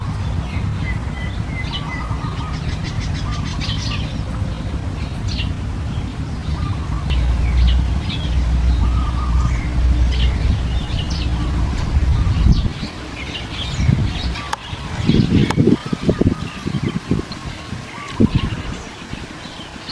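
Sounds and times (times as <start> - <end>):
steady low rumble: 0.0 - 18.8
small birds chirping: 0.0 - 19.9.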